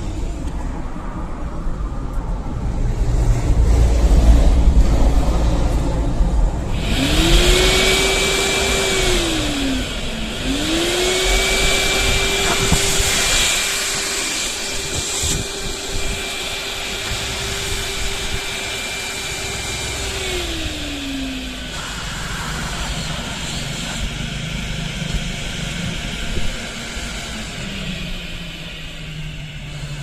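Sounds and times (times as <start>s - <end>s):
dust extractor motor whining: 5.7s - 30.0s.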